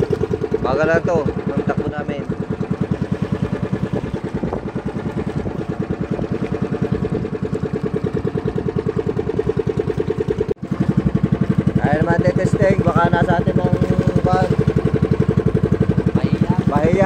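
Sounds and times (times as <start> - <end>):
boat engine chugging: 0.0 - 17.0.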